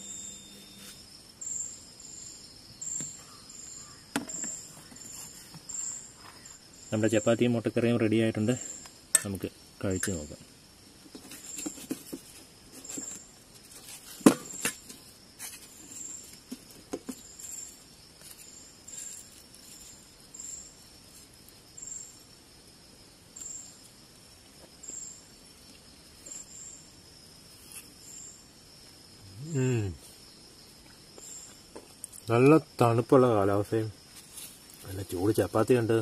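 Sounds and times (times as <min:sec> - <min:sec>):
insects droning and chirping: 0:00.0 - 0:36.0.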